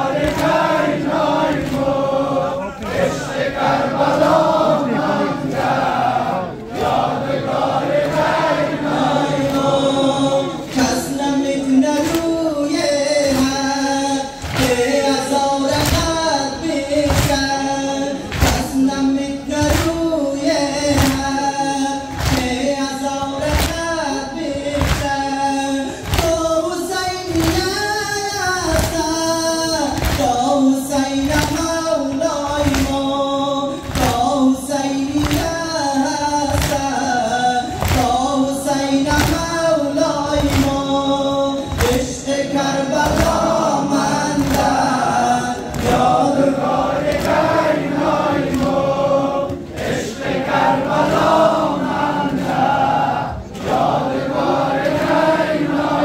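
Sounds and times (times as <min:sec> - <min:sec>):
crowd of men chanting: 0:00.0 - 0:56.0
rhythmic chest slaps: 0:00.0 - 0:56.0.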